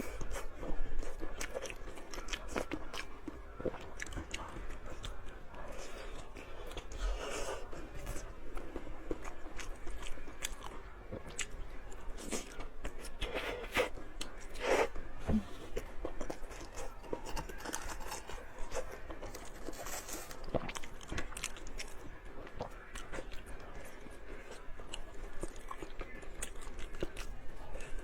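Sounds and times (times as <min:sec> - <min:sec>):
food crunching: 0:00.0 - 0:28.0
person chewing food: 0:00.0 - 0:28.0.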